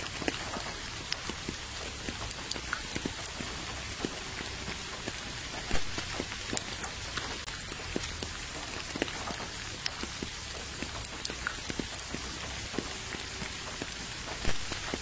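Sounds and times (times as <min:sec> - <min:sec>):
rain hissing on wet ground: 0:00.0 - 0:15.0
raindrop splashes: 0:00.0 - 0:15.0.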